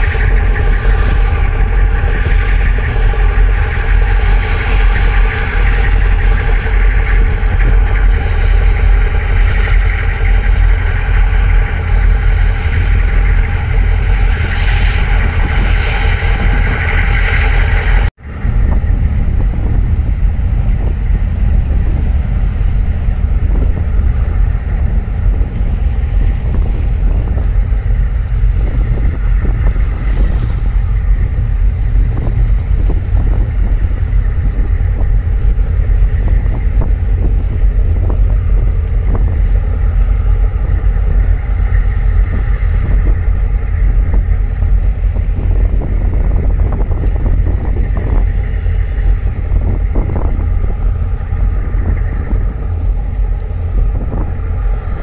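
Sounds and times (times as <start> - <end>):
ship diesel engines droning: 0.0 - 55.0
wind rumbling on microphone: 0.0 - 55.0.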